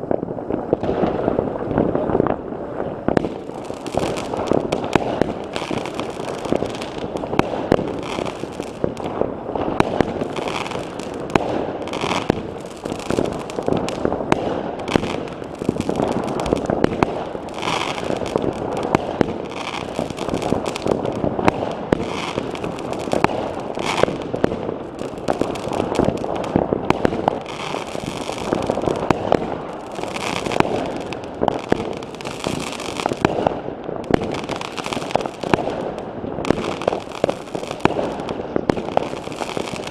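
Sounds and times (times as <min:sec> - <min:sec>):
firecrackers crackling and banging: 0:00.0 - 0:39.9.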